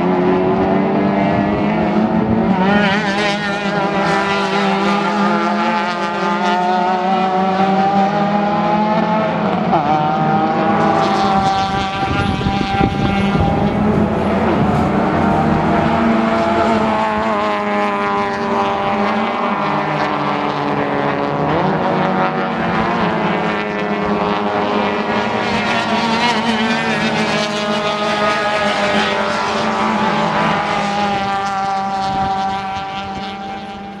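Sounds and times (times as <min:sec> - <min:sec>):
race car engines running hard: 0:00.0 - 0:34.0.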